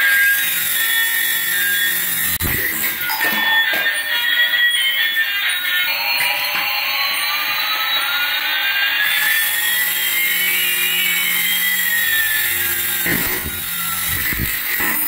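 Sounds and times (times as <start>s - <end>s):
toy helicopter rotor motors whining: 0.0s - 15.0s.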